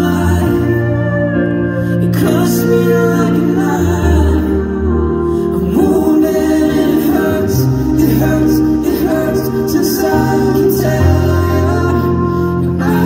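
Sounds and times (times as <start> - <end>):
man singing slow song: 0.0 - 13.0.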